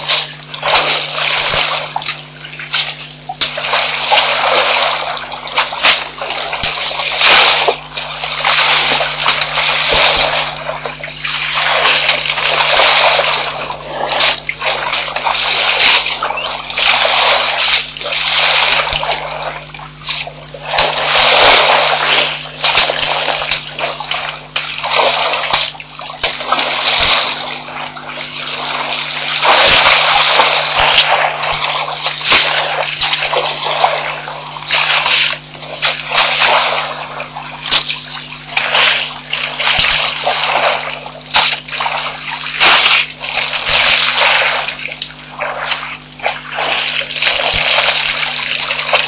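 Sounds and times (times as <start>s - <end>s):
elephants splashing water: 0.0s - 49.0s
low electrical hum: 0.0s - 49.0s.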